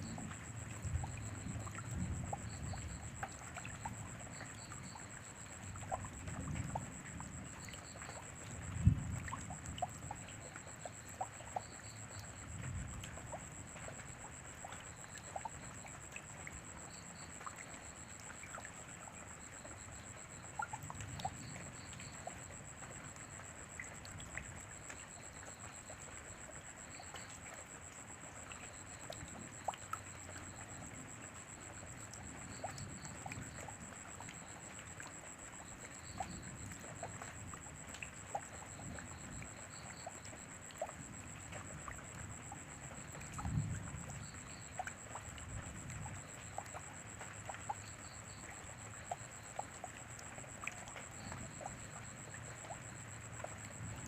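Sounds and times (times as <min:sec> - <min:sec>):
rain falling: 0:00.0 - 0:54.0
water drips and trickles: 0:00.0 - 0:54.0.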